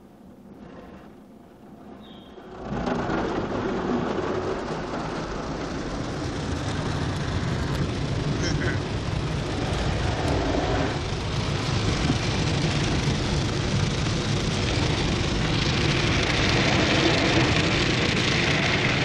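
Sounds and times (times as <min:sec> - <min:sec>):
car wash water spray: 0:02.5 - 0:19.0.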